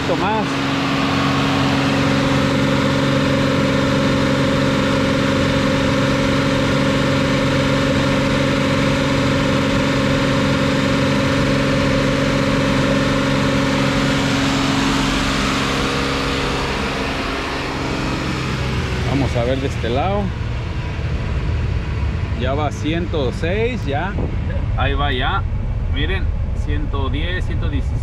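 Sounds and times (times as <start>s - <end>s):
pickup engine revving steadily: 0.0s - 28.0s.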